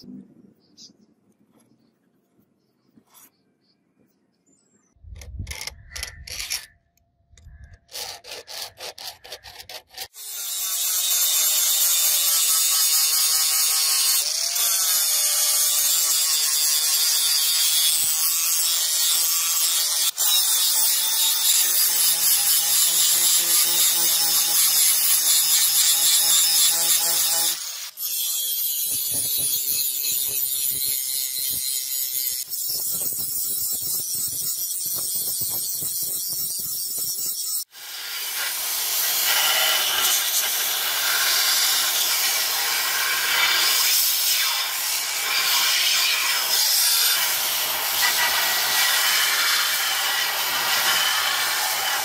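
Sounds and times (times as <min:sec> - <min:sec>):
angle grinder grinding steel: 0:07.6 - 0:52.0.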